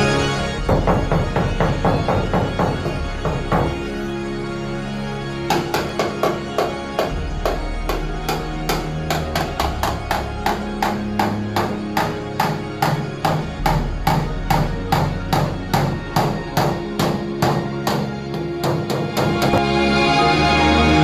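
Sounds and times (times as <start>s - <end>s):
music with percussive beat: 0.7s - 3.9s, 5.5s - 19.6s.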